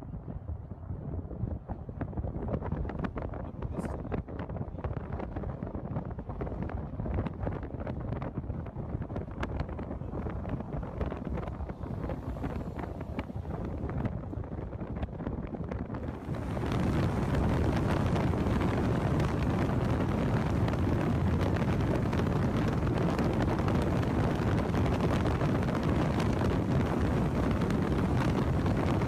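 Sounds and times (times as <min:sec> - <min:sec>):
wind buffeting microphone: 0:00.0 - 0:29.0
car road noise: 0:04.3 - 0:29.0.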